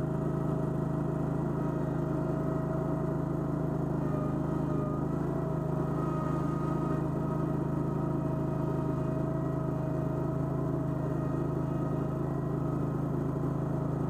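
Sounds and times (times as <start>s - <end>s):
constant whine: 0.0s - 14.0s
gasoline engine running: 0.0s - 14.0s.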